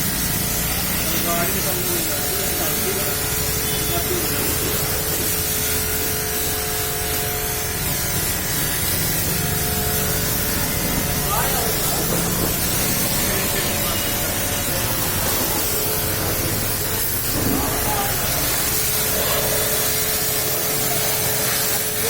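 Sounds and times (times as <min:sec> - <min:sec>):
pressure washer spray hissing: 0:00.0 - 0:22.0.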